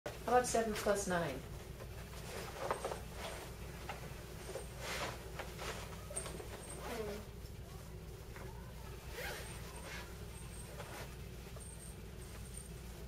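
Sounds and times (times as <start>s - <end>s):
faint rustling: 0.1s - 13.0s
low steady hum: 0.1s - 13.0s.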